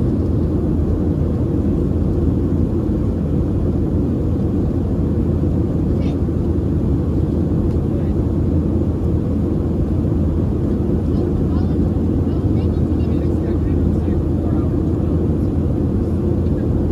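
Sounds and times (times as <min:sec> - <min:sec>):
airplane cabin engine roar: 0:00.0 - 0:16.9.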